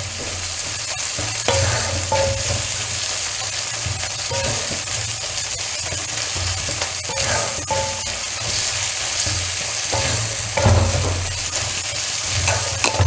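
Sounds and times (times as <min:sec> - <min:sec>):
spoon scraping a pan: 0:00.0 - 0:13.0
vegetables sizzling in oil: 0:00.0 - 0:13.0.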